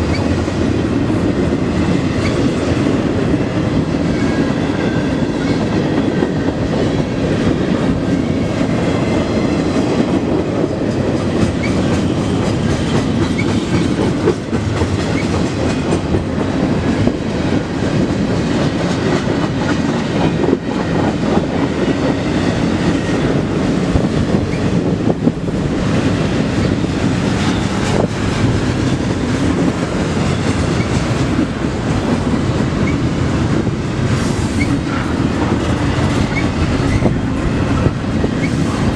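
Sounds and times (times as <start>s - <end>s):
clickety-clack over rail joints: 0.0s - 38.9s
freight train wheels rumbling: 0.0s - 38.9s.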